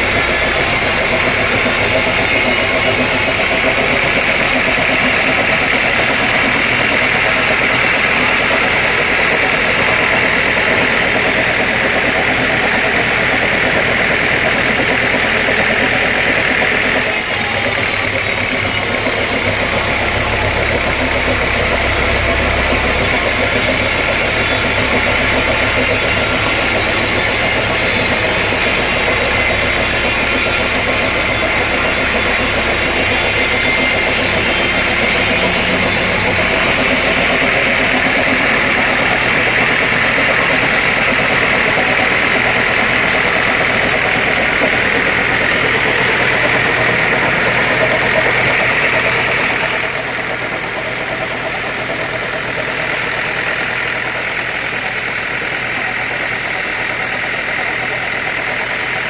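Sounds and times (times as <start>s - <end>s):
sawmill saw droning: 0.0s - 59.0s.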